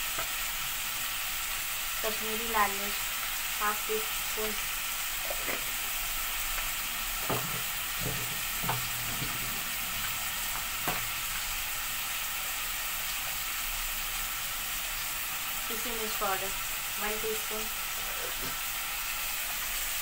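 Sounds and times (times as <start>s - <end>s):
chicken frying in oil: 0.0s - 20.0s.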